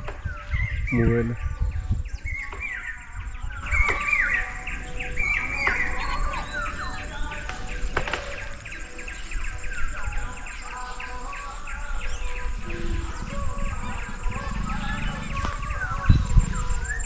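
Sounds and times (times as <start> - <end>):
birds calling with whistled notes: 0.0 - 17.0.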